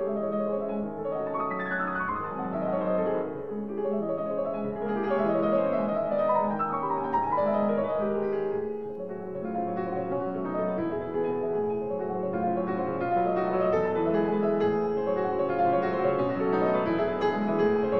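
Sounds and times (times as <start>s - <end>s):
piano music: 0.0s - 17.9s.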